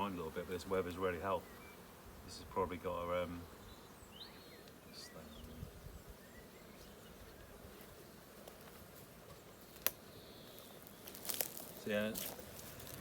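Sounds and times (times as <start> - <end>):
bee buzzing past close: 0.0 - 13.0
bees humming at a hive: 0.0 - 13.0.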